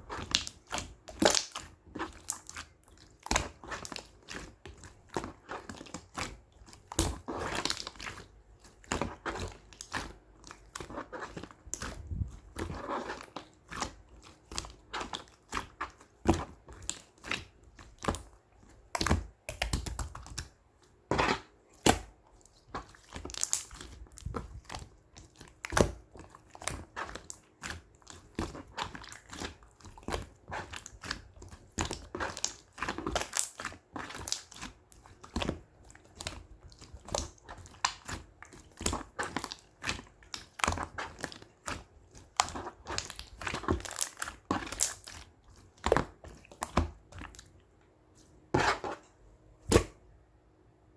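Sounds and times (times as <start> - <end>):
slime squishing with sticky pops: 0.0 - 47.7, 48.6 - 50.0.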